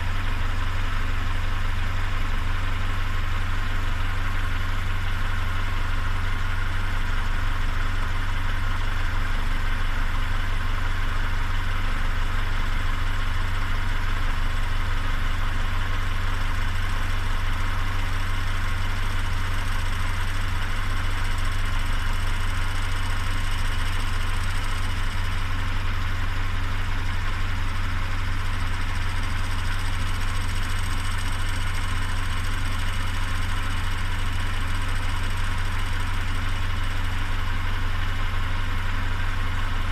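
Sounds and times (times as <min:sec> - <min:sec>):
car engine idling: 0:00.0 - 0:39.9
odd engine noise: 0:00.0 - 0:39.9.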